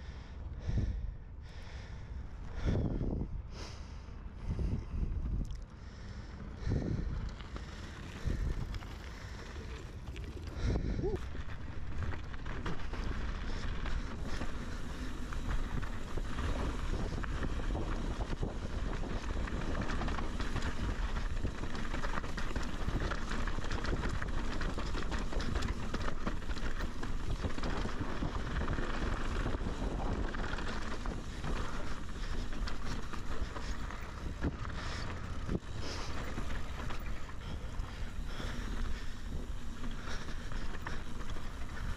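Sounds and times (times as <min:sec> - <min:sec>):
wind buffeting microphone: 0:00.6 - 0:41.9
bike rattling over rocks: 0:06.5 - 0:41.9
tyres crunching over gravel: 0:07.1 - 0:41.9.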